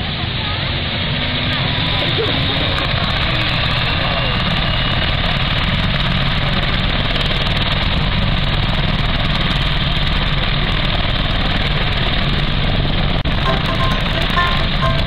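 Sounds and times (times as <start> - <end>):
helicopter turbine and rotor noise: 0.0 - 15.0.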